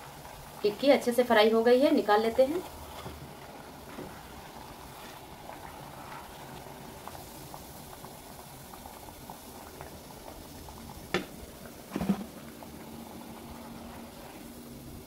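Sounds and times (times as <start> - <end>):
oil sizzling with crackles: 0.0 - 15.0.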